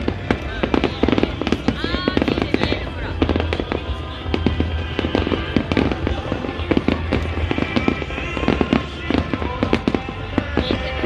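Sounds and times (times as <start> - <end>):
fireworks popping and cracking: 0.0 - 11.0
music over loudspeakers: 0.0 - 11.0.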